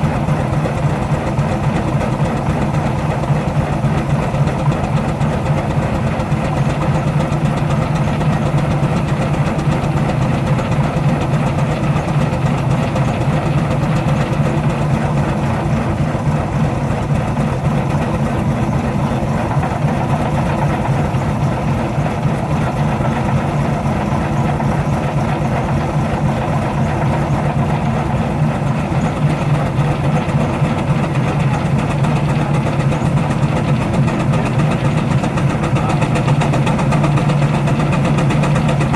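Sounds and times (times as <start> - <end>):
steam traction engine beating: 0.0 - 38.9.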